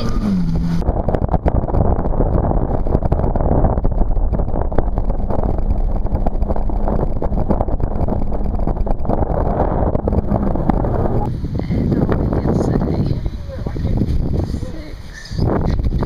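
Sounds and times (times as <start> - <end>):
jet ski engine running: 0.0 - 14.0
wind buffeting microphone: 0.0 - 16.0.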